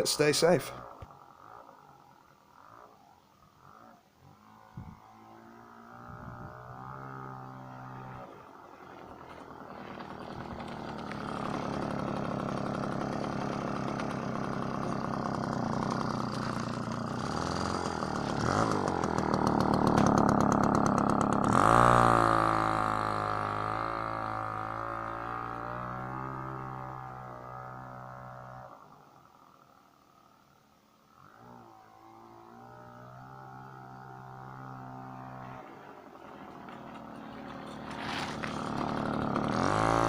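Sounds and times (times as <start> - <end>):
moped engine revving: 0.0 - 29.7, 31.1 - 40.0
two-stroke moped engine running: 0.0 - 29.7, 31.1 - 40.0.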